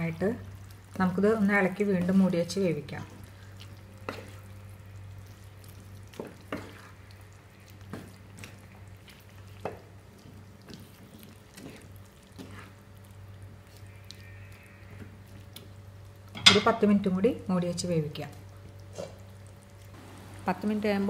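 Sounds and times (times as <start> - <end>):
spatula stirring liver in juices: 0.0 - 20.0.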